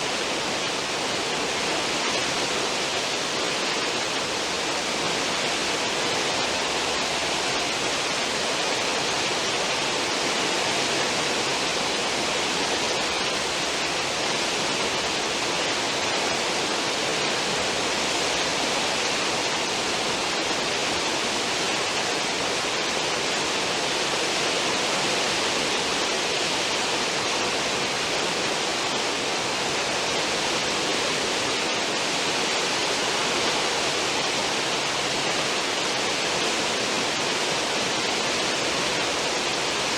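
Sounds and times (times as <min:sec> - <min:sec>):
rushing churned water: 0:00.0 - 0:39.9.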